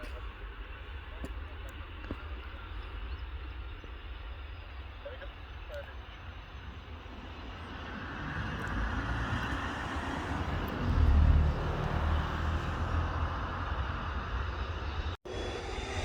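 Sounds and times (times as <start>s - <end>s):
aircraft engines passing: 0.0s - 16.0s.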